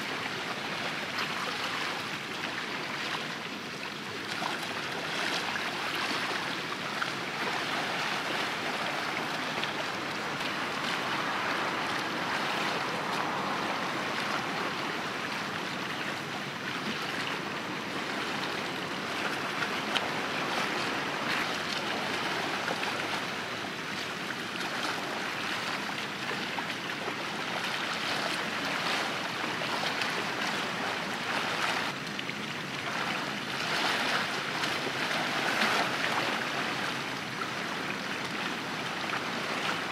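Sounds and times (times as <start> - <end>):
small waves lapping and splashing: 0.0 - 39.9.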